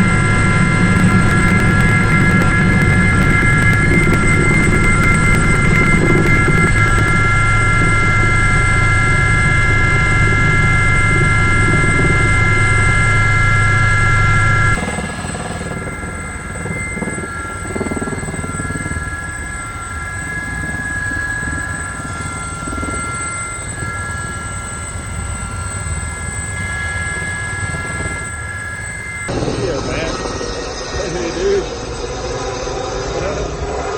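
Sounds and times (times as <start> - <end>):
helicopter engine whine: 0.0 - 33.9
helicopter rotor low drone: 0.0 - 33.9.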